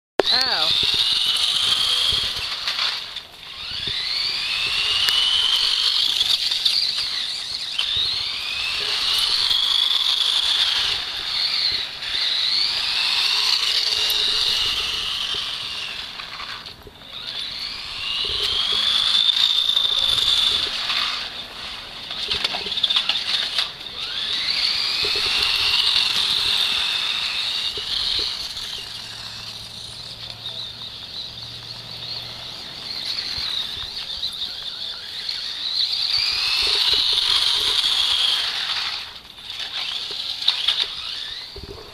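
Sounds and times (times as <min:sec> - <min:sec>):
toy car electric motor whining: 0:00.2 - 0:41.9.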